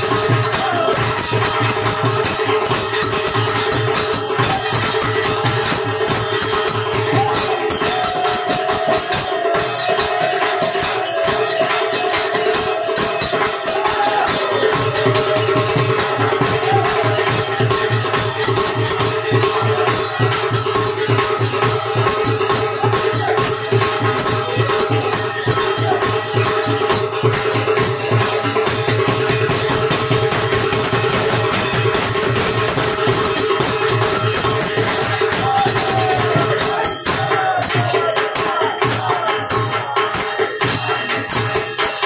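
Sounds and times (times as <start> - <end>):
barrel drum beat: 0.0 - 42.0
brass hand cymbals: 0.0 - 42.0
jingling frame drum: 0.0 - 42.0
men singing: 0.0 - 42.0.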